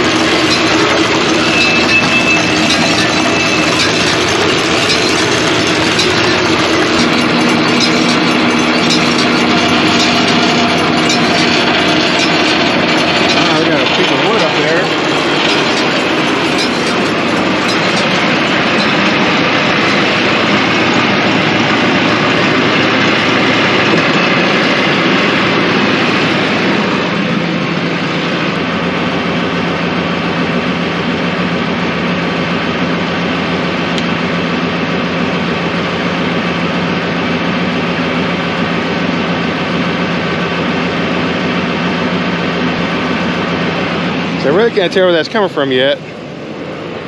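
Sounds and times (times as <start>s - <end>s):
tractor and baler running: 0.0s - 47.0s.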